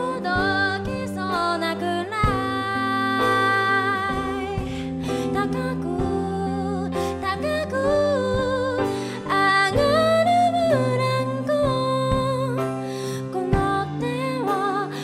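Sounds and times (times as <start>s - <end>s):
grand piano chords: 0.0s - 15.0s
woman singing a slow ballad: 0.0s - 15.0s.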